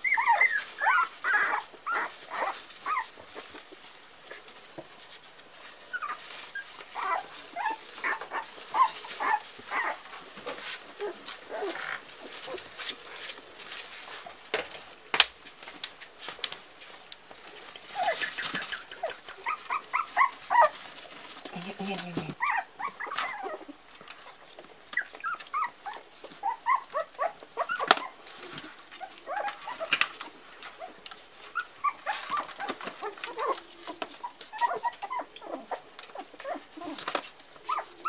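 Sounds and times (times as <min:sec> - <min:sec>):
puppies whimpering and yipping: 0:00.0 - 0:04.6, 0:05.5 - 0:13.2, 0:17.8 - 0:38.0
plastic bin liner crinkling: 0:00.0 - 0:38.0.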